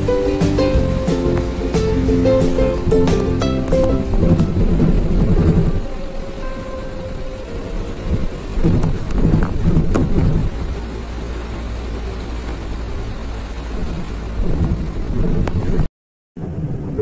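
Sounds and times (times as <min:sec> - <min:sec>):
low road rumble: 0:00.0 - 0:17.0
rain beating on vehicle: 0:00.0 - 0:17.0.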